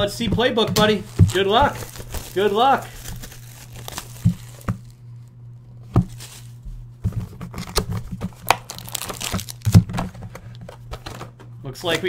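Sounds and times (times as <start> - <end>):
cardboard rustles and taps: 0.0 - 2.4, 3.0 - 4.9, 5.9 - 11.3
plastic wrap crackling: 0.0 - 5.4, 6.0 - 10.9
low electrical hum: 0.0 - 12.0.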